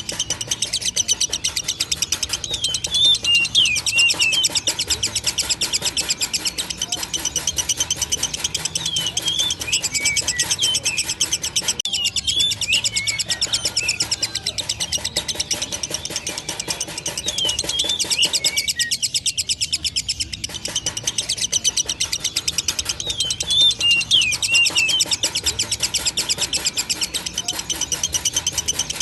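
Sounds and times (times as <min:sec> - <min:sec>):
bird trilling chatter: 0:00.0 - 0:29.0
squeaky bird chirps: 0:00.0 - 0:29.0.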